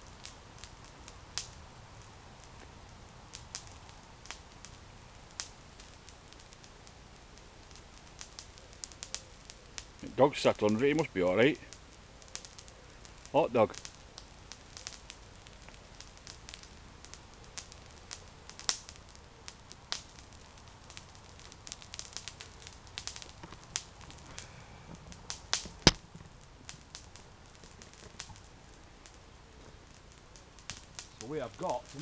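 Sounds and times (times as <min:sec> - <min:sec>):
charcoal crackling and popping: 0:00.0 - 0:32.0.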